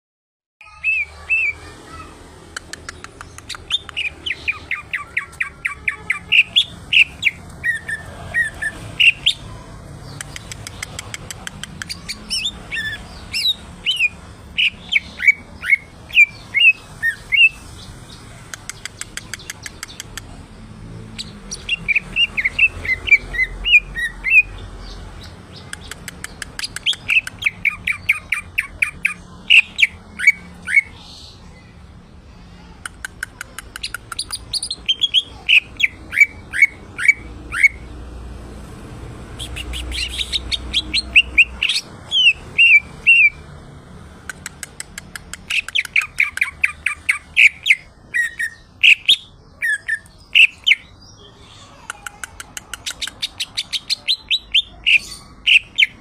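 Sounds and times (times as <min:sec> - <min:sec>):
leafbird singing: 0:00.6 - 0:31.7, 0:33.3 - 0:38.0, 0:39.3 - 0:43.4, 0:44.4 - 0:56.0.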